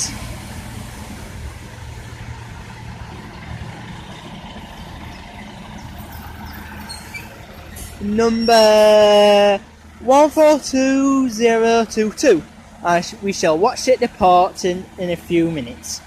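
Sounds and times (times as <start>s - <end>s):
train diesel engine humming: 0.0s - 16.0s.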